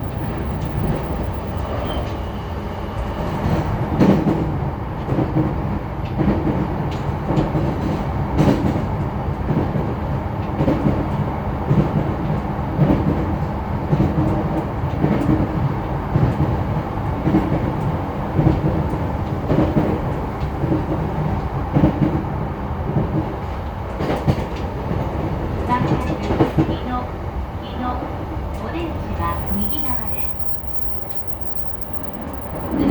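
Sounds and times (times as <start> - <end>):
train running rumble: 0.0 - 32.9.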